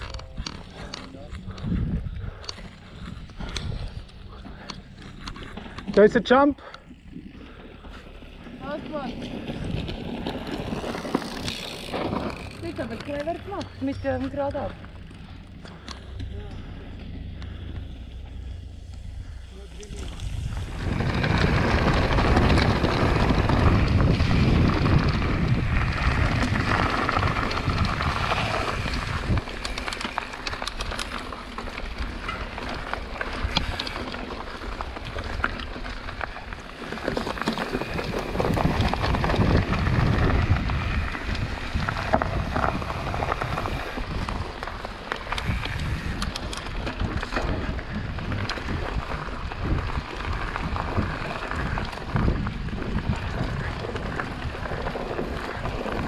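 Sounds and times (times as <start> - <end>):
wind buffeting microphone: 0.0 - 5.8, 6.9 - 56.0
bike rattles and clicks: 0.0 - 56.0
tyres rumbling on dirt trail: 0.0 - 56.0.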